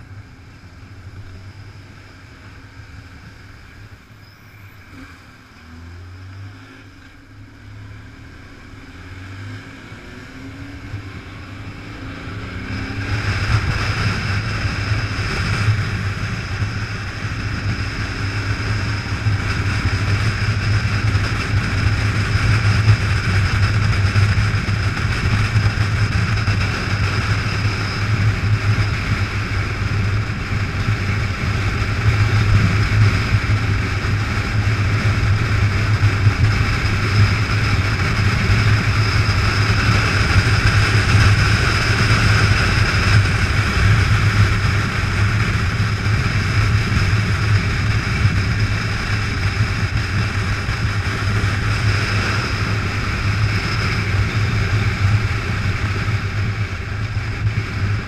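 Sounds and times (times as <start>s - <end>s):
motorcycle engine droning: 0.0s - 58.0s
riding wind noise: 0.0s - 58.0s.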